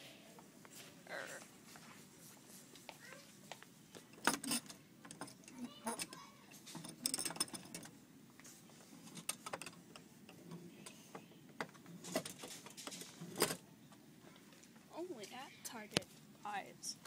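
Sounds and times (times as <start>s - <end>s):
faint low background noise: 0.0s - 17.0s.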